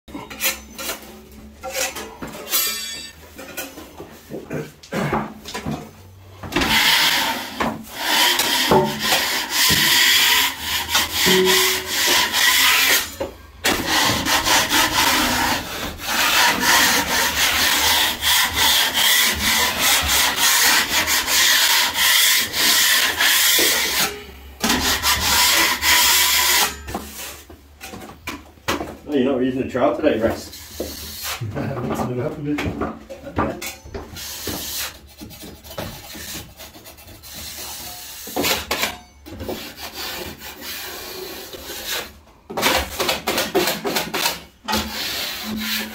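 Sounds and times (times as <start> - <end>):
knife scraping compound on ceiling: 0.1 - 4.0, 6.6 - 28.0, 30.2 - 32.5, 33.6 - 45.9.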